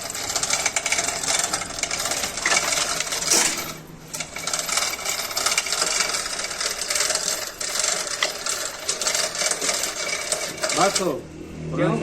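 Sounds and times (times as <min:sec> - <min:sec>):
metallic clattering and clicking: 0:00.0 - 0:11.1.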